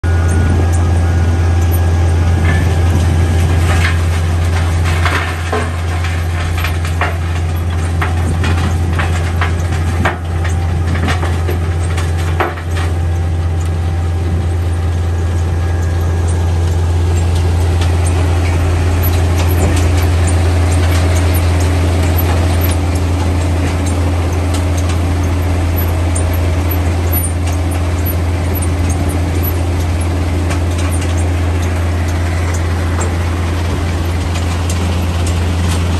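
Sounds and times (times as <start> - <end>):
rock crusher droning: 0.0 - 35.9.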